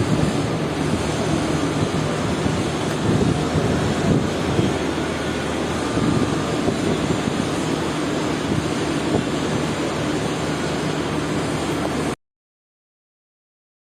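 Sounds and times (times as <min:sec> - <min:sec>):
mechanical drone with low tones: 0:00.0 - 0:12.2
noisy hiss: 0:00.0 - 0:12.2.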